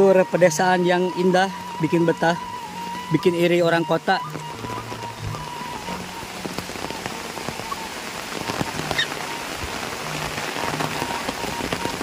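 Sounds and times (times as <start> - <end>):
heavy rain hiss: 0.0 - 12.0
raindrops ticking: 0.0 - 12.0.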